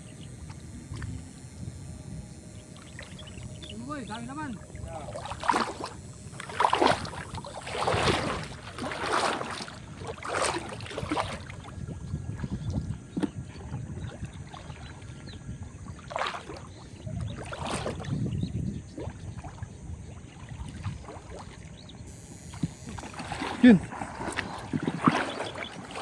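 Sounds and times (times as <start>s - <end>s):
water splashing: 2.6s - 26.0s.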